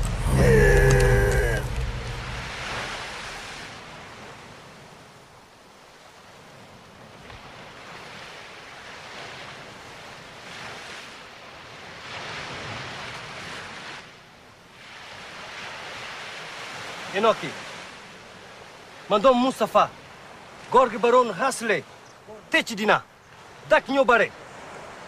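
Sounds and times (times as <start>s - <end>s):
waves washing up a beach: 0.0s - 25.0s.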